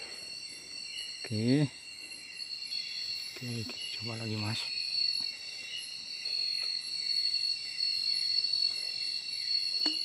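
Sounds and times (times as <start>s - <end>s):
crickets chirping at night: 0.0s - 10.0s.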